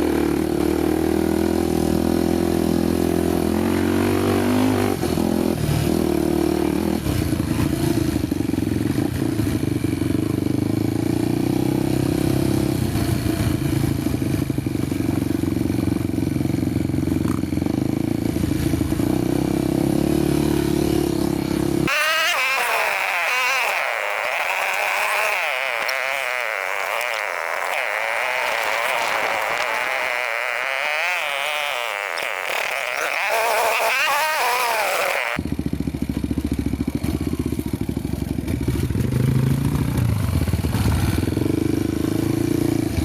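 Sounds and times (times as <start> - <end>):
motorcycle engine running: 6.6 - 43.0.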